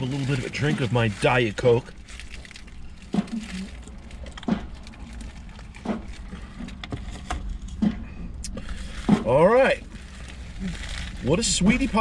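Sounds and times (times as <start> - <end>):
foil wrapper crinkling: 0.0 - 6.7, 8.6 - 12.0.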